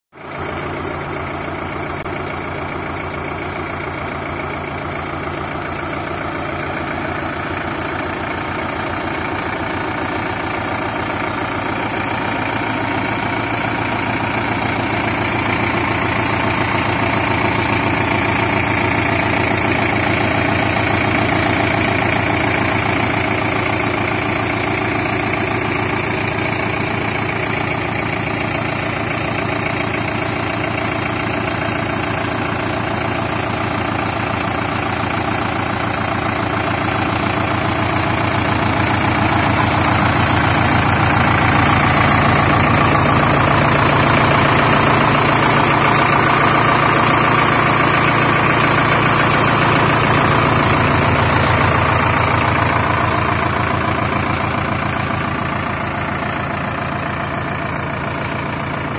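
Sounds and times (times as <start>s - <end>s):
tractor diesel engine idling: 0.1s - 58.9s.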